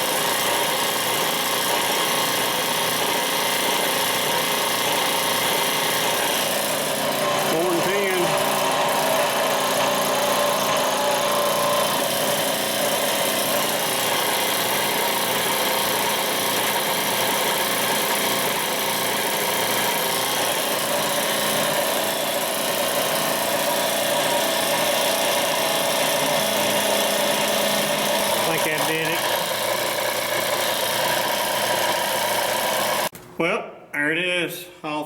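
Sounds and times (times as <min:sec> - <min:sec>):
machine humming and whirring: 0:02.7 - 0:33.2.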